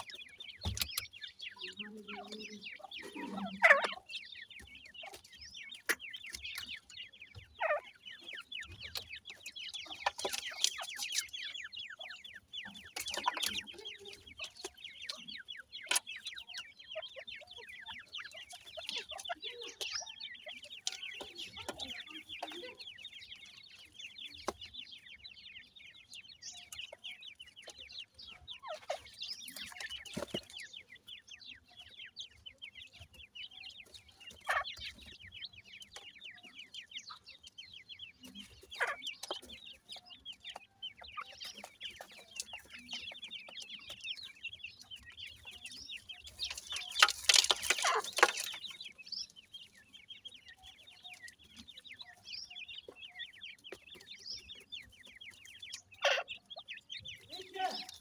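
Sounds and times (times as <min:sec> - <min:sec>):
birds pecking in dry soil: 0:00.0 - 0:58.0
chicks peeping: 0:00.0 - 0:58.0.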